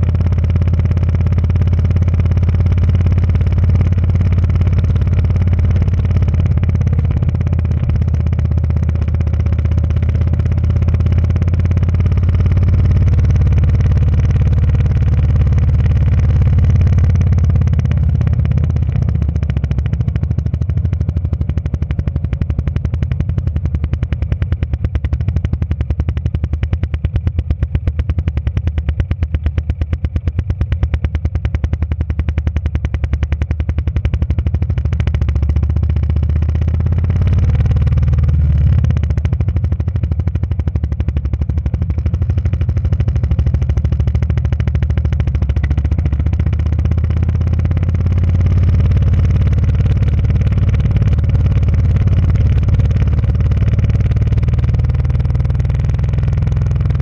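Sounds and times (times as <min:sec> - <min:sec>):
gravel road rumble: 0:00.0 - 0:57.0
motorcycle engine drone: 0:00.0 - 0:57.0.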